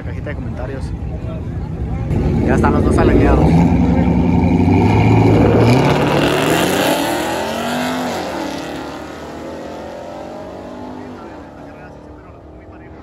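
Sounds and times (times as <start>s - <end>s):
drag racing cars revving: 0.0s - 13.0s
cars accelerating away: 2.1s - 13.0s.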